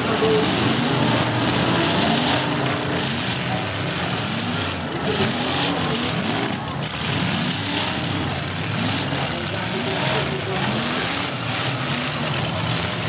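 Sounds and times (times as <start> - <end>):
car engines revving: 0.0 - 13.0
steady background noise: 0.0 - 13.0.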